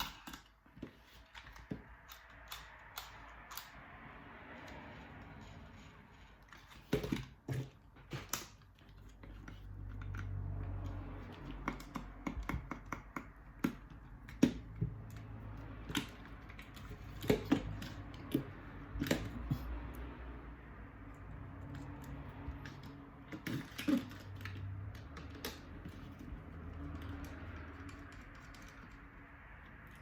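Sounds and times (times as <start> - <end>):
plastic parts and tools clicking: 0.0 - 20.0, 20.6 - 30.0.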